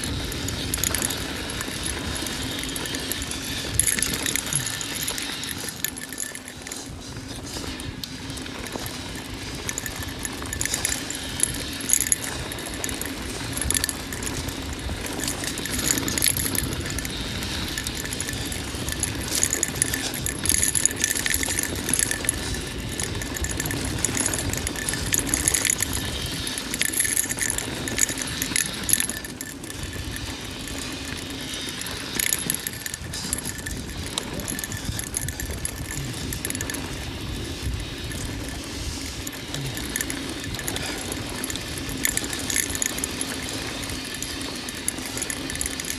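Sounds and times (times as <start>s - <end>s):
bike chain and frame rattling: 0.0s - 45.9s
bike clattering over bumps: 0.0s - 45.9s.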